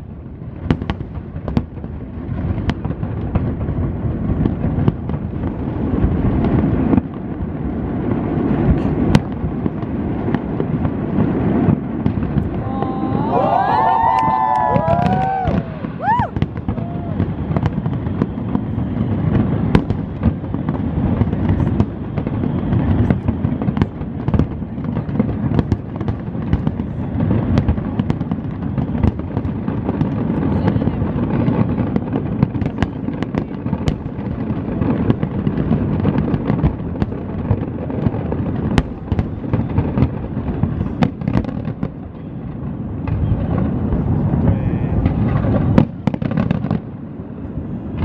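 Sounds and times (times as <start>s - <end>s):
fireworks cracks and bangs: 0.0s - 48.0s
fireworks rumbling: 0.0s - 48.0s.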